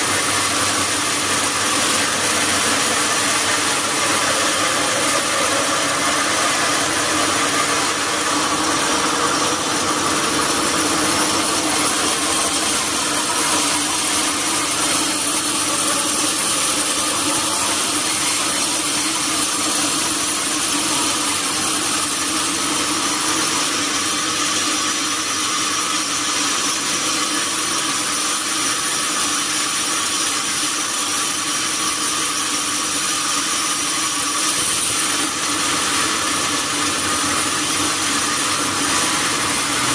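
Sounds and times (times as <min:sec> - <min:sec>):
high machine whine: 0:00.0 - 0:39.9
sawmill saw cutting wood: 0:00.0 - 0:39.9.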